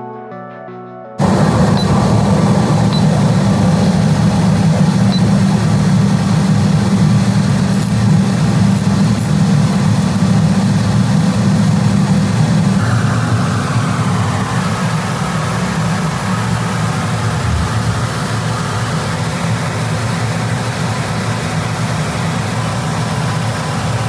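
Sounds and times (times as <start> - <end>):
welding arc buzzing and crackling: 1.2 - 24.0.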